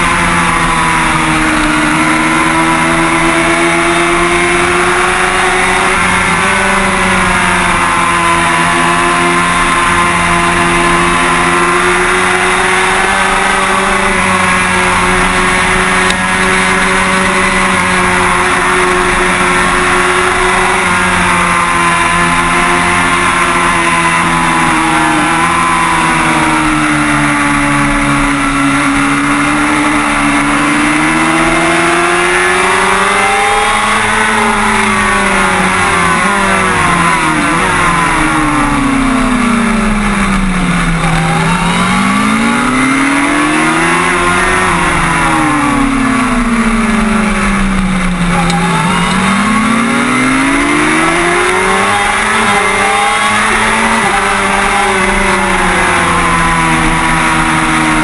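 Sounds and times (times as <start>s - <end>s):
motorcycle engine at high revs: 0.0s - 58.0s.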